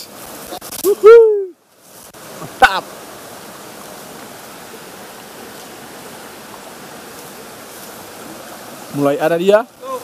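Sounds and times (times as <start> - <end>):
shallow river flowing: 0.0 - 10.0.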